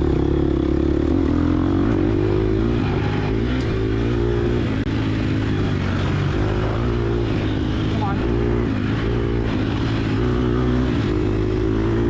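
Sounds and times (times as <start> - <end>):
dirt bike engine running hard: 0.0 - 12.0.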